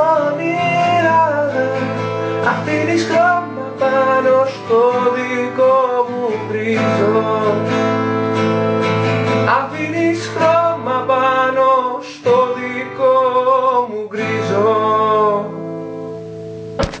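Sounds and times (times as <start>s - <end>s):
guitar song: 0.0s - 17.0s.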